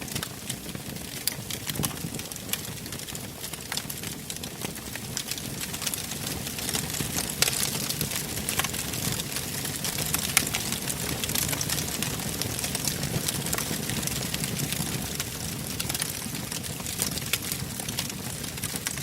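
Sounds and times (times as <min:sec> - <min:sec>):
fire crackling and popping: 0:00.0 - 0:19.0
low rumble of flames: 0:00.1 - 0:19.0.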